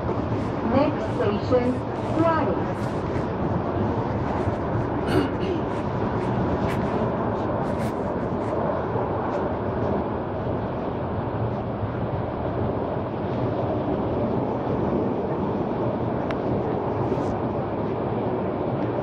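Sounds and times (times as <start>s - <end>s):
light-rail car rumble: 0.0s - 19.0s.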